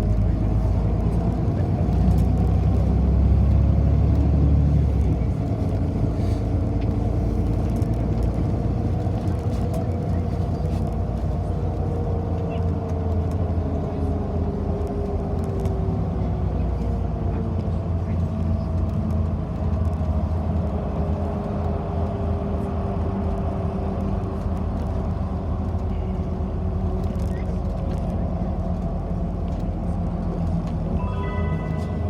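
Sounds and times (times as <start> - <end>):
bus drivetrain and road rumble: 0.0 - 32.0.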